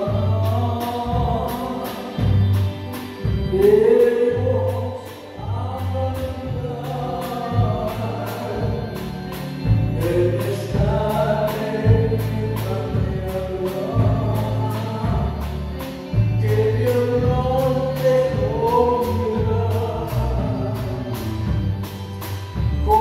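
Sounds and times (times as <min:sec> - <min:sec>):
live band playing: 0:00.0 - 0:23.0
man singing: 0:00.0 - 0:23.0
repeating bass line: 0:00.0 - 0:23.0
steady drum beat: 0:00.0 - 0:23.0.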